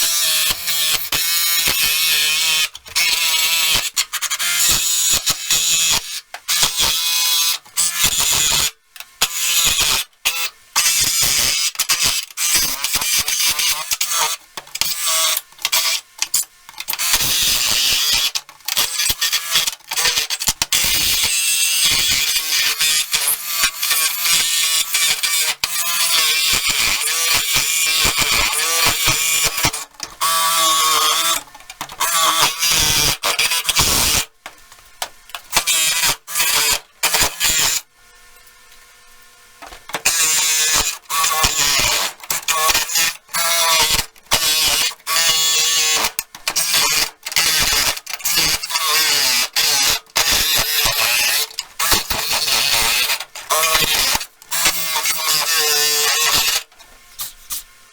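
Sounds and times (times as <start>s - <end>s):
small power tool motor bursts: 0.0s - 57.7s.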